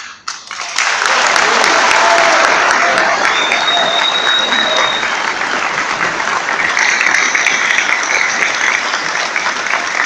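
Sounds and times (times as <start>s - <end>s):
audience applauding: 0.4s - 10.0s.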